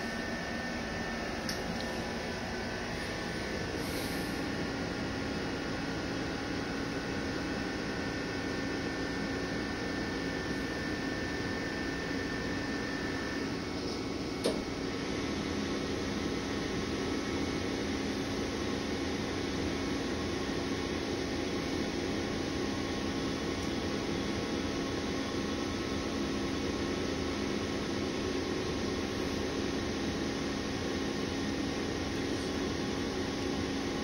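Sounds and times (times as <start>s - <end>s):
machine humming: 0.0s - 34.0s.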